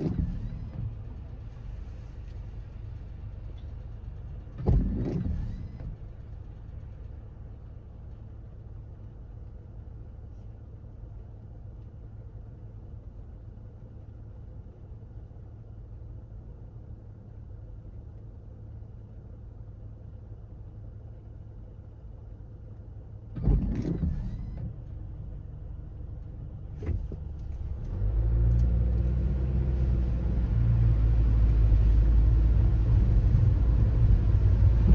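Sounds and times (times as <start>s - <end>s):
car road noise rumble: 0.0s - 34.9s.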